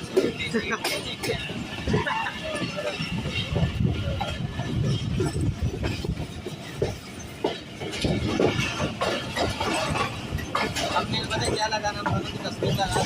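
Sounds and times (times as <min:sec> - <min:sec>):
train rumbling on rails: 0:00.0 - 0:13.0
wheels clattering: 0:00.0 - 0:13.0.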